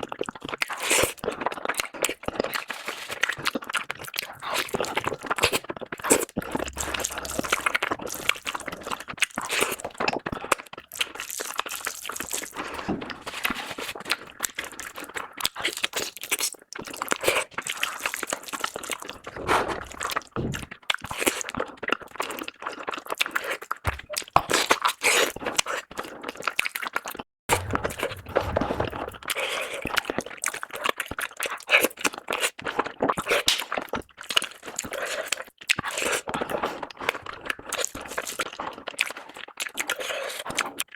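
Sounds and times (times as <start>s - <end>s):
person chewing food: 0.0s - 29.6s, 30.4s - 40.9s.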